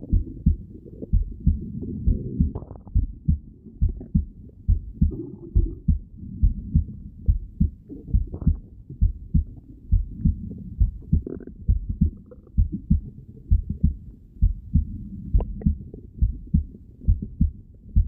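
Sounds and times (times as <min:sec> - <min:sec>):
heartbeat thumps: 0:00.0 - 0:18.0
short higher heart sounds: 0:00.0 - 0:18.0.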